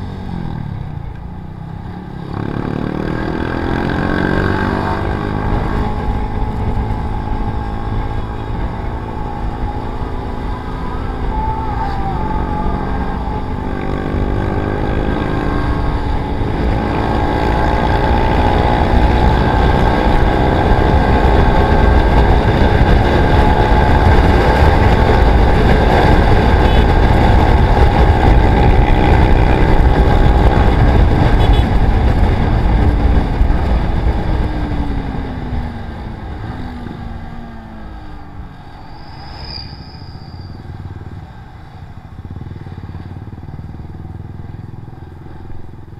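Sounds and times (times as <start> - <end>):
motorcycle engine at speed: 0.0 - 45.9
wind rush: 3.4 - 40.9.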